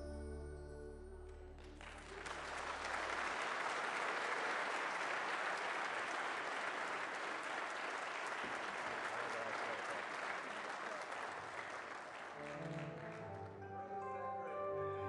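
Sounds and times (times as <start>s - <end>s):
congregation applauding: 1.6s - 15.0s.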